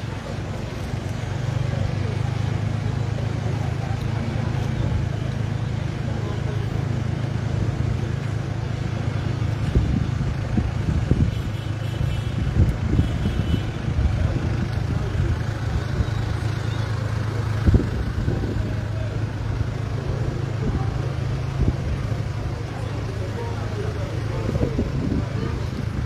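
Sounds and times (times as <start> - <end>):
faint voices: 0.0 - 26.0
traffic: 0.0 - 26.0
vehicle engine hum: 0.0 - 26.0.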